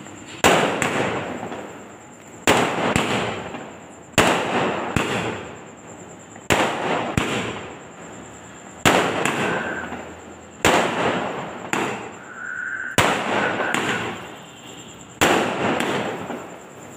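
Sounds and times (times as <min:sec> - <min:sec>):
fireworks crackling: 0:00.0 - 0:05.6, 0:06.4 - 0:16.9
fireworks bangs: 0:00.0 - 0:05.7, 0:06.4 - 0:16.9.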